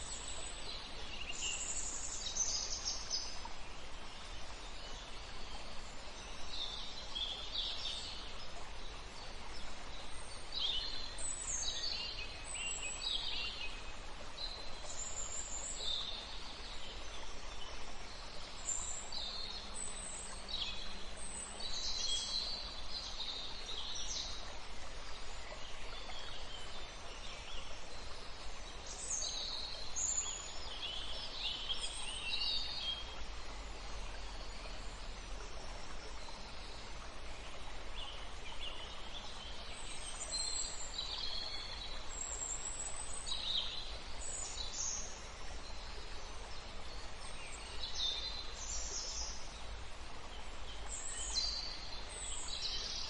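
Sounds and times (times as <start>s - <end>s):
songbirds singing: 0.0s - 53.0s
steady outdoor hiss: 0.0s - 53.0s.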